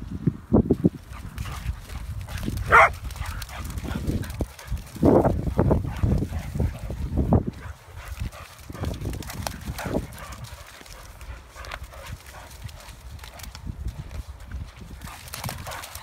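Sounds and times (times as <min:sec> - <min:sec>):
dogs playing: 0:00.7 - 0:16.0.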